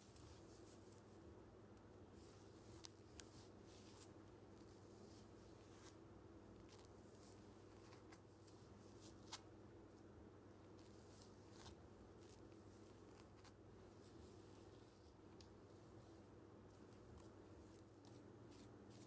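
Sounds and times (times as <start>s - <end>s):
hair ties rustling and ticking: 0.0s - 1.2s, 1.8s - 19.0s
low steady hum: 0.0s - 19.0s.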